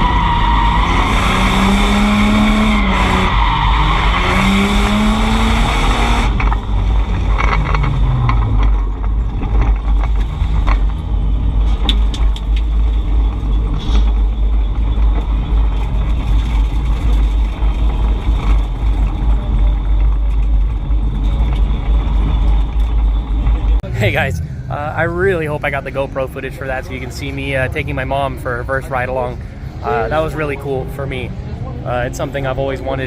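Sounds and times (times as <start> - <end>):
car engine winding down: 0.0 - 33.0
low rumble of car rolling: 0.0 - 33.0.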